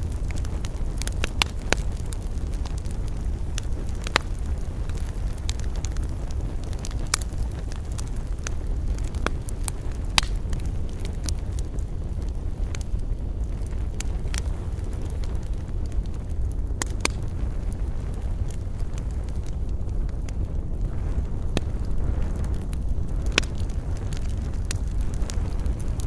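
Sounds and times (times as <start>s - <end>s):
low rumble of fire: 0.0s - 26.0s
wood fire crackling and popping: 0.0s - 26.0s.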